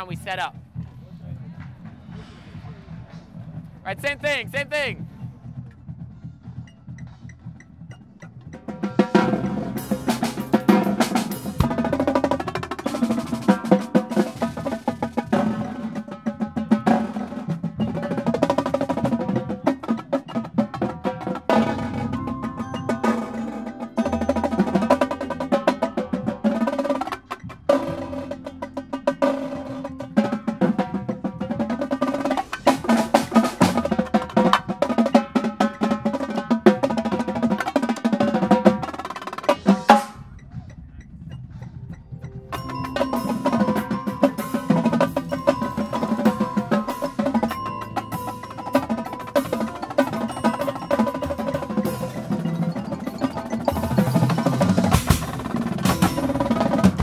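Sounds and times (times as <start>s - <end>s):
marching drumline playing: 0.0s - 57.0s.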